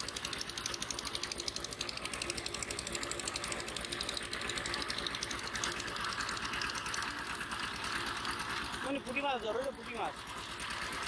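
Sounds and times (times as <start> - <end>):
small engine chugging: 0.0 - 11.0.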